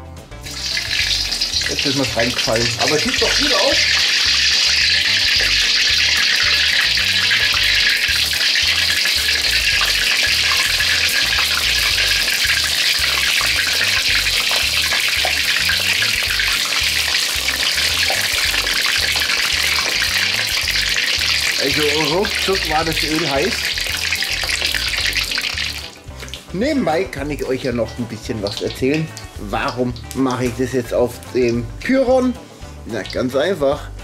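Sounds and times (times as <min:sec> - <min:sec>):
oil sizzling and crackling: 0:00.3 - 0:31.6.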